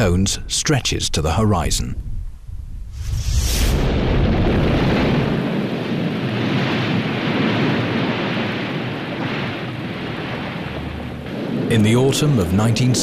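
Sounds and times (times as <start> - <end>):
deep rumble: 2.2 - 13.0
volcanic eruption rushing: 2.6 - 13.0.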